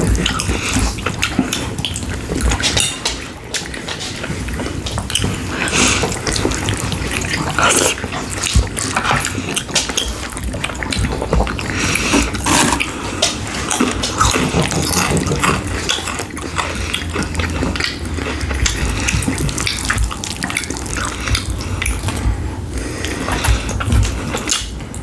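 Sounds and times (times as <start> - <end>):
wet chewing and mouth smacking: 0.0 - 25.0.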